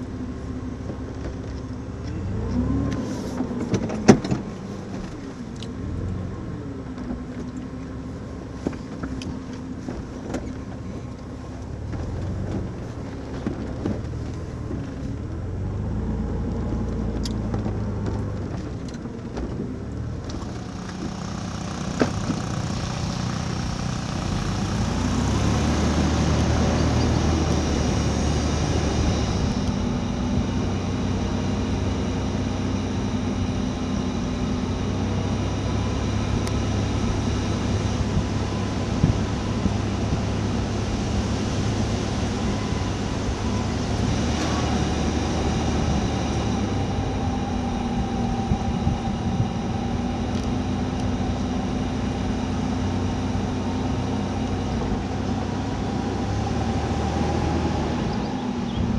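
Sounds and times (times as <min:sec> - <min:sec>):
motor vehicle engine running: 0:00.0 - 0:58.9.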